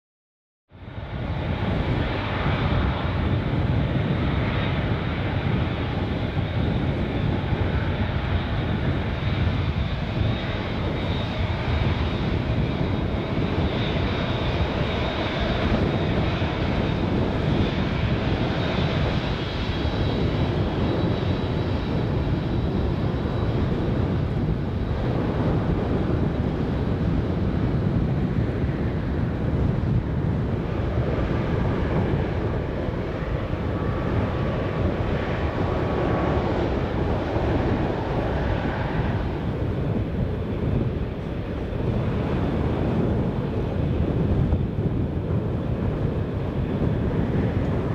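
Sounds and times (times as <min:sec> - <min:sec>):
jet engines rumbling: 0:00.7 - 0:47.9
high engine whine: 0:00.9 - 0:47.9.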